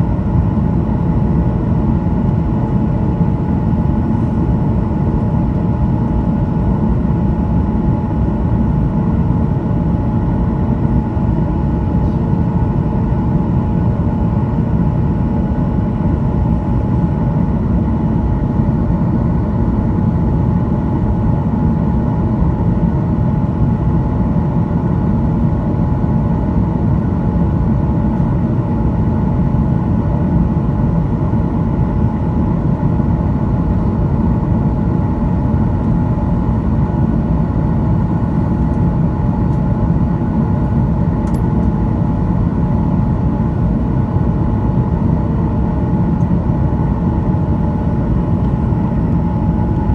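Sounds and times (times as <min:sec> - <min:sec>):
engine and airflow rumble: 0:00.0 - 0:49.9
jet engine whine: 0:00.0 - 0:49.9.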